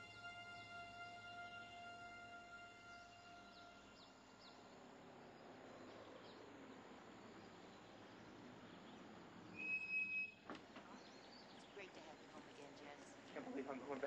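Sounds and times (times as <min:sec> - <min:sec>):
faint street ambience: 0:00.0 - 0:14.0.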